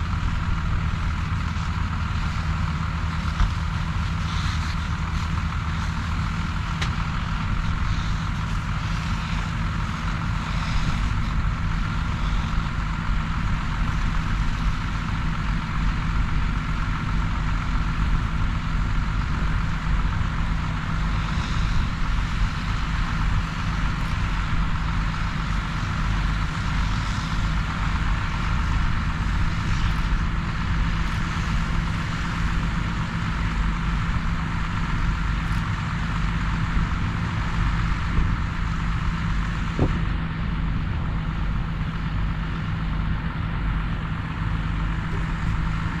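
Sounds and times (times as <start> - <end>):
vehicle engine running steadily: 0.0 - 46.0.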